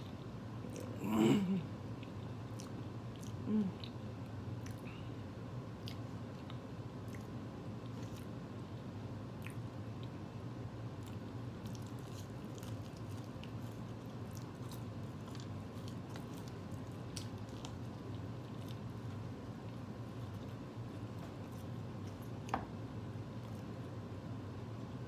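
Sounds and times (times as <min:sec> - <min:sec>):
person chewing food: 0:00.0 - 0:01.0, 0:01.9 - 0:08.7, 0:09.3 - 0:10.2, 0:10.9 - 0:24.1
steady low hum: 0:00.0 - 0:25.0.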